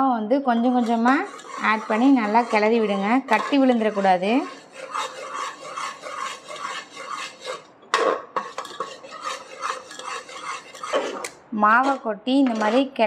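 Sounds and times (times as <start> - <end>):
metal spoon scraping pot: 0.6 - 13.0.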